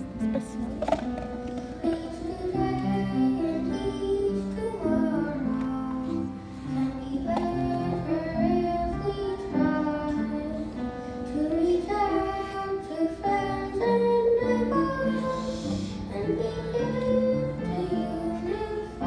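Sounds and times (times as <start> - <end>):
children's choir singing: 1.6 - 19.0.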